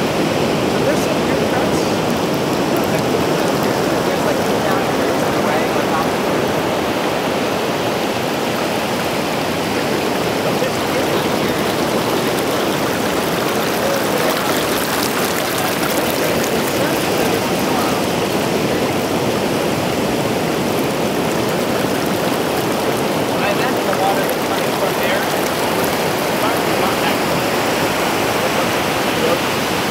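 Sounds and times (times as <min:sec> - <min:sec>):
shallow water flowing over sand: 0:00.0 - 0:29.9.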